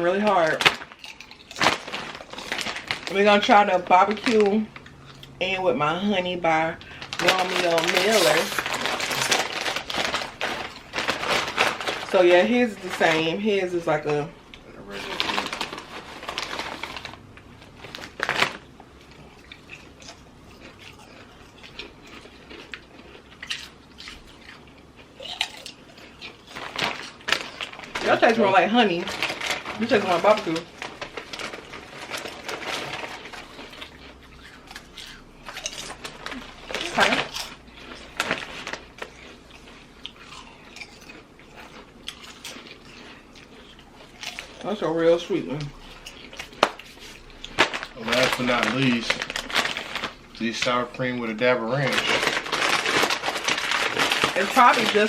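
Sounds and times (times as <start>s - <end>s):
potato chips crunched and chewed: 0.0s - 5.4s, 6.8s - 13.3s, 14.5s - 55.0s.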